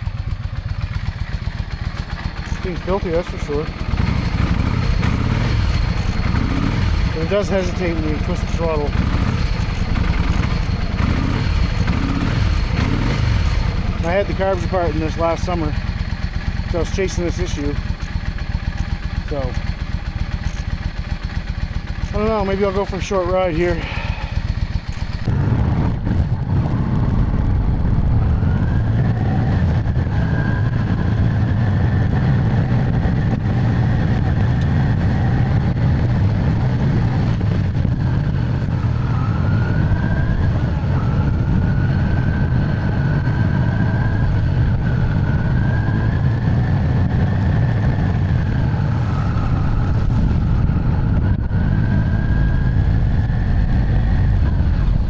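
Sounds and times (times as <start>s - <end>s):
motorcycle engine rumbling and whining: 0.0s - 55.0s.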